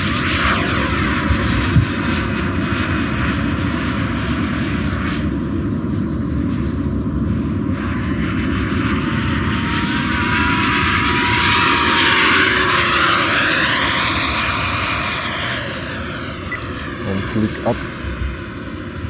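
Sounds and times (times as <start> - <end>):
electric ducted fan whine: 0.0 - 19.0.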